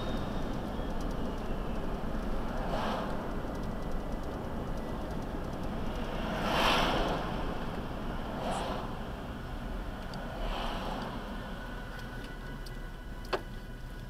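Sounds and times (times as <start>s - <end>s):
car road and engine noise: 0.0s - 14.0s
vehicles passing: 0.0s - 14.0s.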